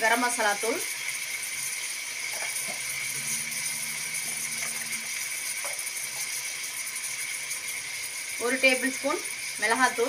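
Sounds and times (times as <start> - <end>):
food frying in oil: 0.0 - 10.0.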